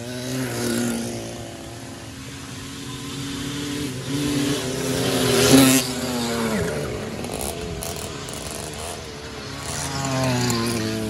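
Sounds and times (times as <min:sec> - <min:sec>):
small two-stroke engines racing: 0:00.0 - 0:11.0.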